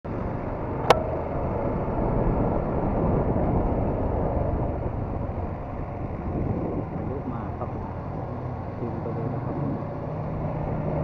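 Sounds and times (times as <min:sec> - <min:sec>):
wind and road noise: 0:00.0 - 0:11.0
motorcycle engine running: 0:00.1 - 0:11.0.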